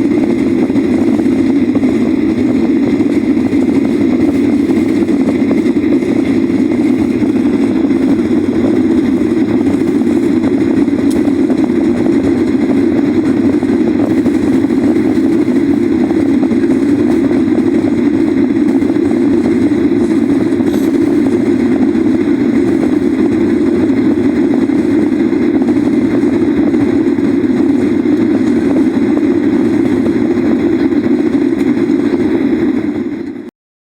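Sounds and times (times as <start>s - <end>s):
jet engines roaring: 0.0s - 33.5s.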